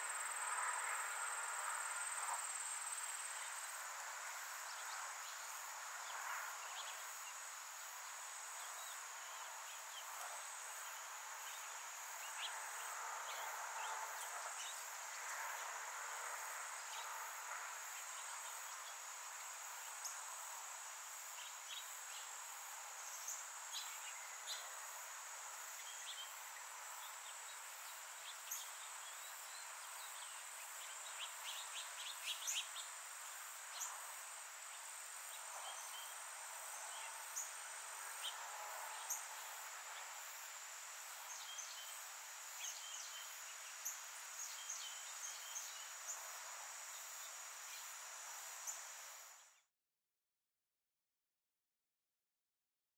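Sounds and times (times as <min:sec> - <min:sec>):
high insect trill: 0:00.0 - 0:49.6.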